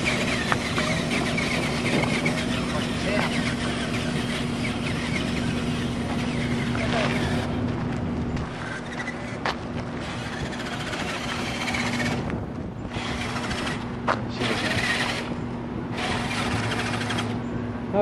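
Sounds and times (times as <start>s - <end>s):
drive motors humming: 0.0s - 18.0s
noisy rush: 0.0s - 18.0s.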